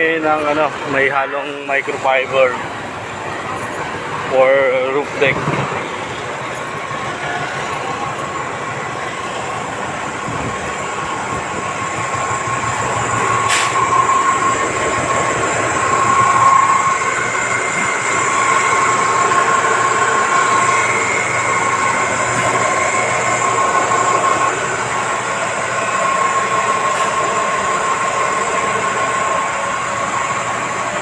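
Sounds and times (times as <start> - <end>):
machinery noise with high whine: 0.0 - 31.0.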